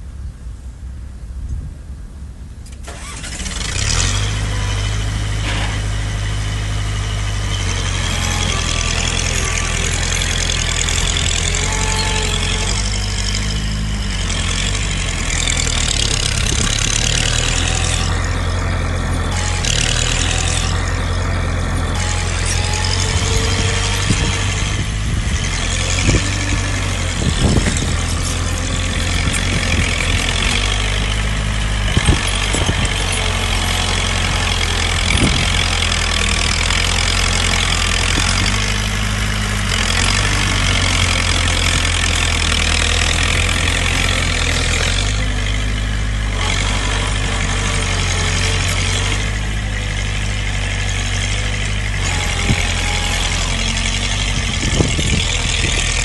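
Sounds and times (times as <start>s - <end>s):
heavy diesel engine running: 1.9s - 56.0s.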